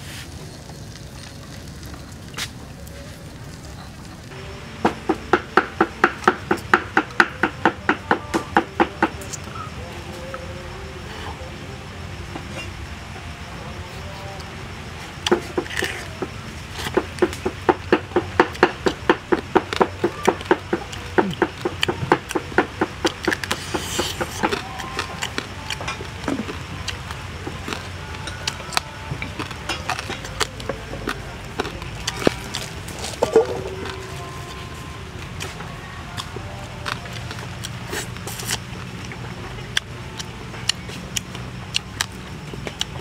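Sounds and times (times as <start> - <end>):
crunchy chewing: 0.0 - 4.5, 12.4 - 43.0.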